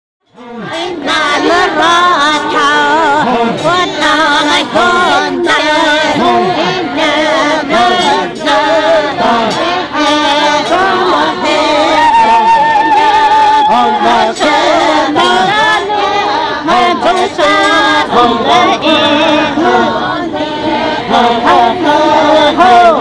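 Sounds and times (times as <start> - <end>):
women singing together: 0.3 - 23.0.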